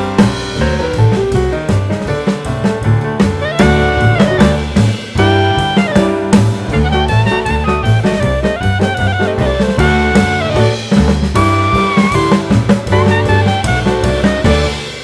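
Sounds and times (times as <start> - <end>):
jazzy instrumental music: 0.0 - 15.0.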